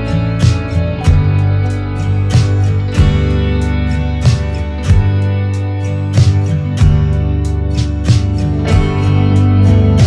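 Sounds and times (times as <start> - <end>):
guitar over sustained chords: 0.0 - 10.0.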